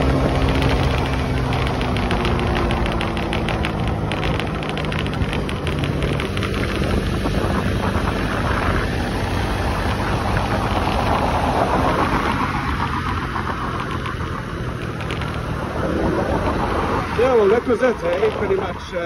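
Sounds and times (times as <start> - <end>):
motorcycle engine hum: 0.0 - 19.0
wind rushing over microphone: 0.0 - 19.0.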